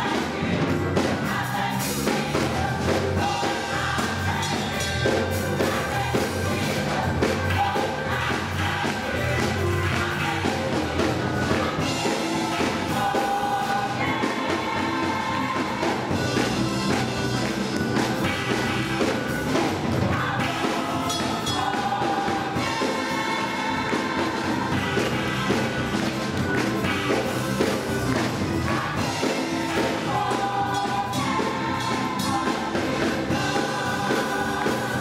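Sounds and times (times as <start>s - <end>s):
gospel choir singing: 0.0s - 35.0s
instruments and drums playing: 0.0s - 35.0s.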